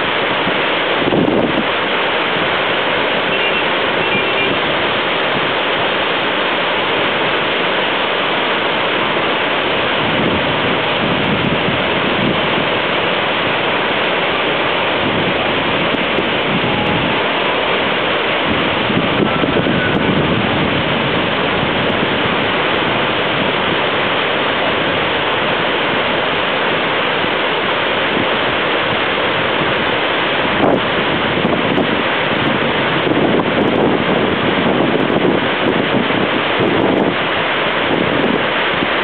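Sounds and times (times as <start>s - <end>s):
rush of falling water: 0.0s - 39.0s.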